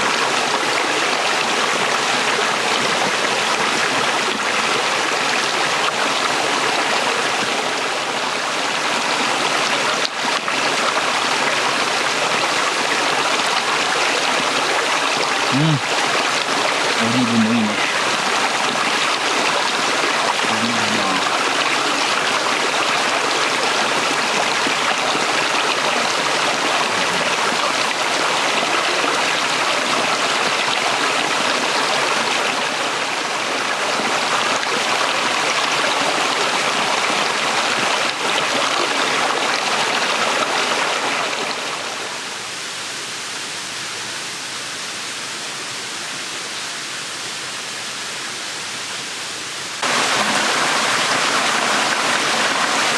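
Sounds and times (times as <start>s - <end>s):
water flowing over rocks: 0.0s - 52.9s.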